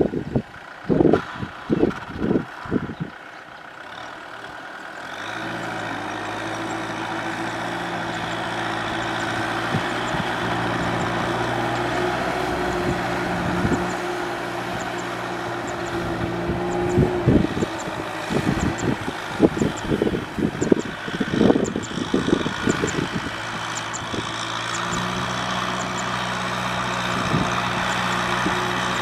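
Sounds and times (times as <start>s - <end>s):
tractor diesel engine droning: 0.0s - 29.0s.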